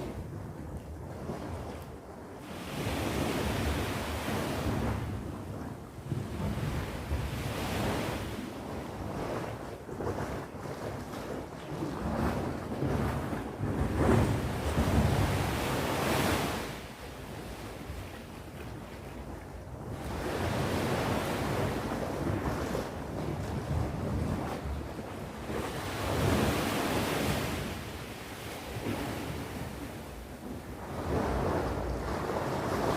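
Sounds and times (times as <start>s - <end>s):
sea waves breaking on shore: 0.0s - 32.9s.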